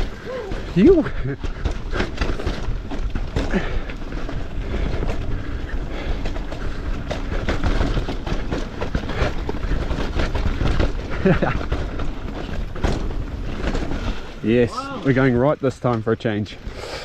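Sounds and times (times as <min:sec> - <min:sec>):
bike clicks and rattles: 0:00.0 - 0:17.0
bike tyres rumbling on dirt: 0:00.0 - 0:17.0.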